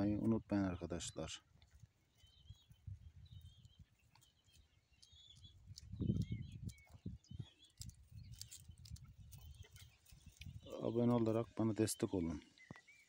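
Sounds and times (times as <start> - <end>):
faint bird chirps: 0.8 - 13.0.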